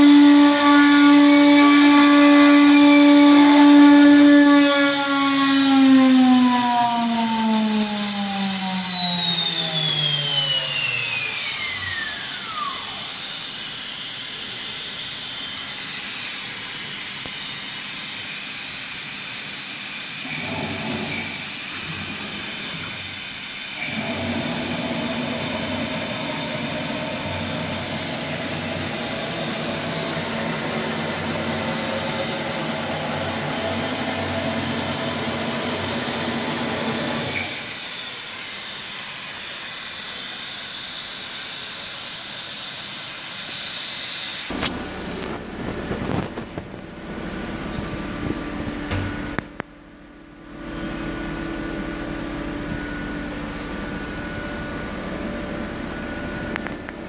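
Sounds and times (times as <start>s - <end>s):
cnc router whining: 0.0s - 57.0s.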